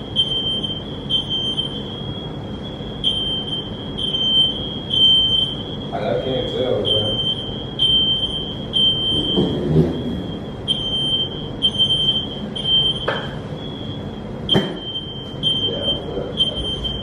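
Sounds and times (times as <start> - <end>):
smoke alarm beeping: 0.0 - 17.0.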